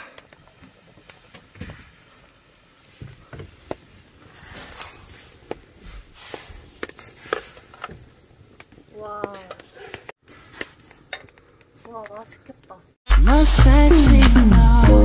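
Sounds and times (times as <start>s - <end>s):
water boiling in a wok: 0.0s - 13.0s.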